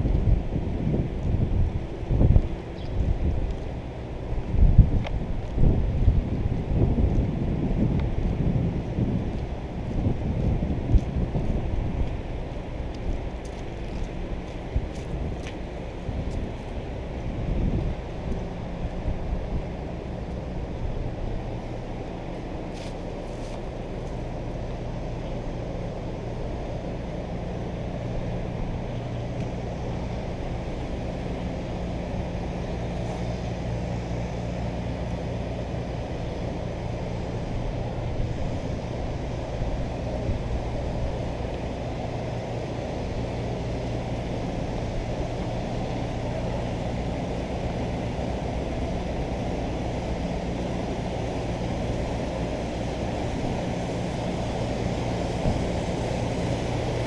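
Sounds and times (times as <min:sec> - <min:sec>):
outdoor noise: 0:00.0 - 0:57.0.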